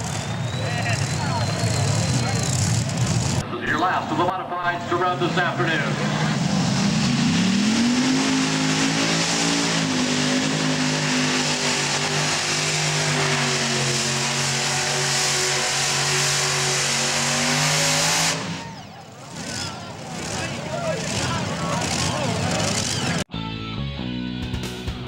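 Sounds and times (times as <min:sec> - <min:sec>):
tractor engine revving at high rpm: 0:00.0 - 0:03.5, 0:04.9 - 0:23.3.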